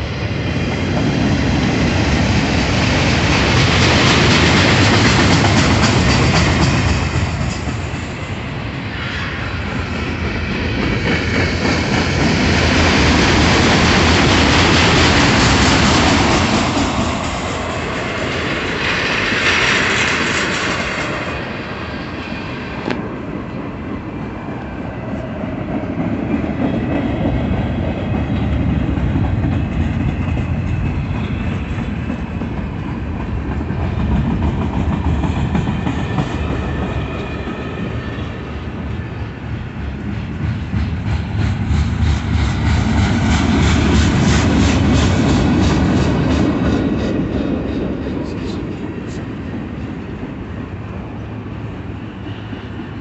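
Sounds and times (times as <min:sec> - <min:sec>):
clickety-clack over rail joints: 0:00.0 - 0:23.2, 0:25.0 - 0:51.2
train wheels rumbling on rail: 0:00.0 - 0:53.0.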